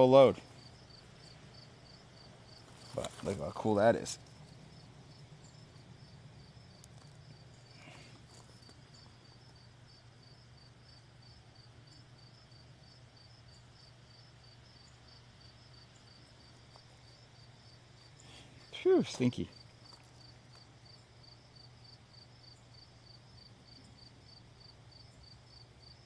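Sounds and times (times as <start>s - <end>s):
faint insect chirping: 0.0s - 26.0s
low steady hum: 0.0s - 26.0s.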